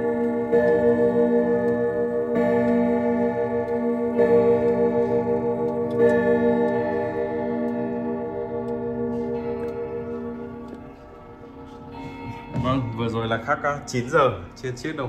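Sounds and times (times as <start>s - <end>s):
clock ticking: 0.0s - 15.0s
grandfather clock chiming: 0.0s - 15.0s.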